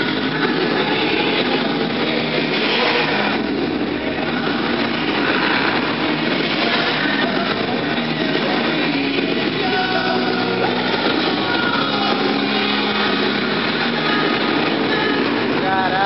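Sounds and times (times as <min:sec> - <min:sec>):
dense crowd din: 0:00.0 - 0:16.0
loud music over sound system: 0:00.0 - 0:16.0.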